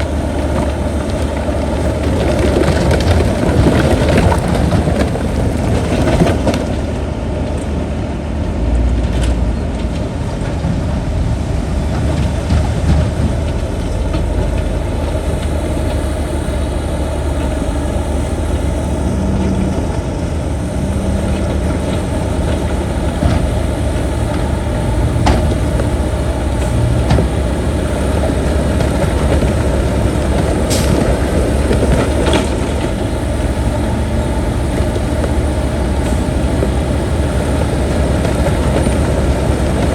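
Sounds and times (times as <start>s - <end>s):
diesel machinery engine rumbling: 0.0s - 39.9s.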